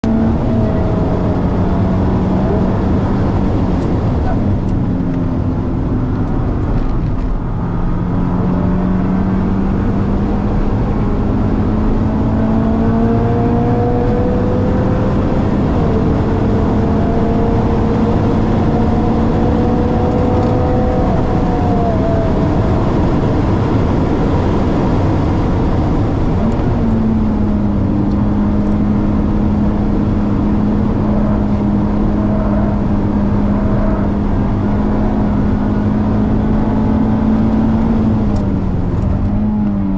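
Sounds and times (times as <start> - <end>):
racing car engine under load: 0.0 - 39.9.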